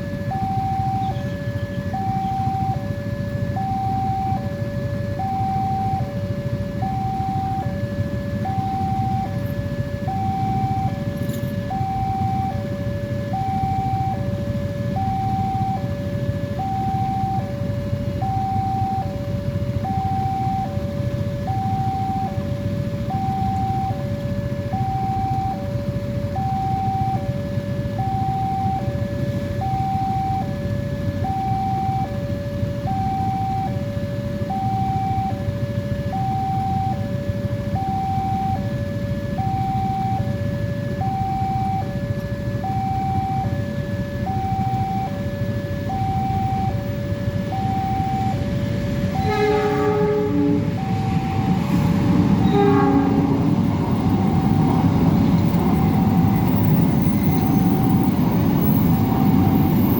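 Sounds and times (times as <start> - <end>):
level crossing two-tone alarm: 0.0 - 59.9.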